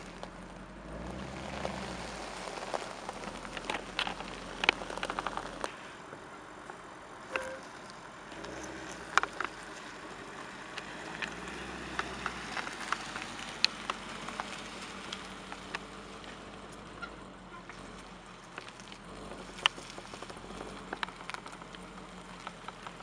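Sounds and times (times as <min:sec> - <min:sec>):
car engine low hum: 0:00.0 - 0:23.0
exhaust ticks and pops: 0:00.0 - 0:23.0.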